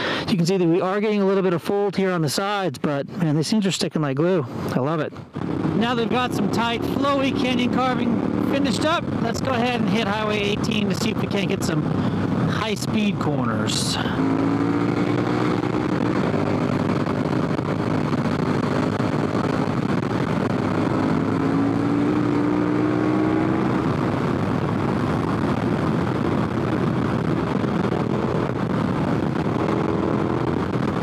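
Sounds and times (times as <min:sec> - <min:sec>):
wind and tyre noise: 0:00.0 - 0:31.0
motorcycle engine running: 0:05.3 - 0:31.0.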